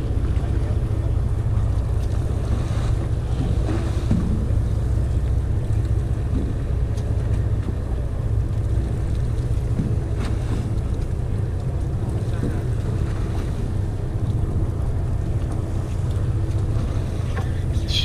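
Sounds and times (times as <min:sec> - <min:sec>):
boat engine droning: 0:00.0 - 0:18.0
sea water washing against hull: 0:00.0 - 0:18.0.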